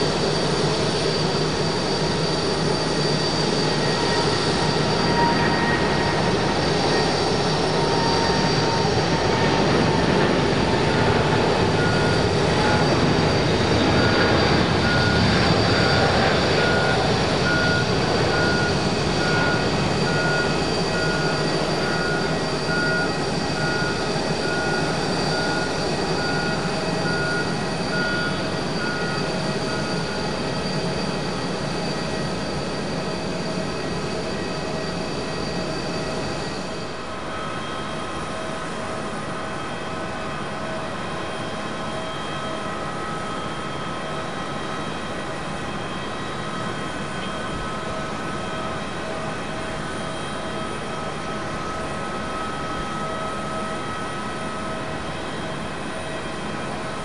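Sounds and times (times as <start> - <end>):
jet engines roaring at takeoff: 0.0 - 57.0.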